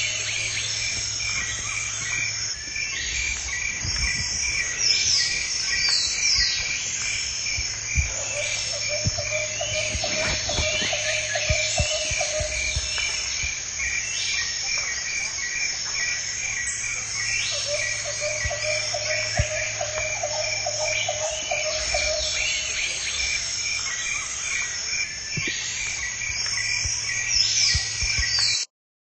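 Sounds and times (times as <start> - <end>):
low steady hum: 0.0 - 28.5
insect trill: 0.0 - 28.7.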